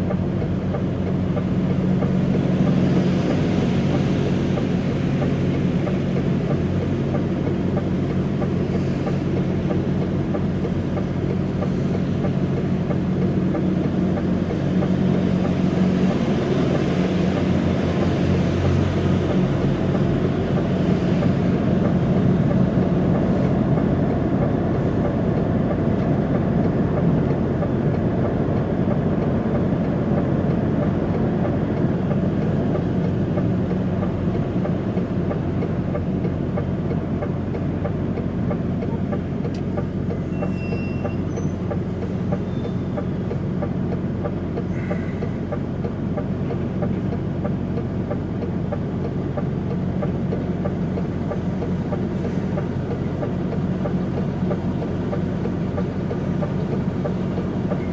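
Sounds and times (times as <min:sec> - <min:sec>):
diesel truck engine drone: 0:00.0 - 0:57.9.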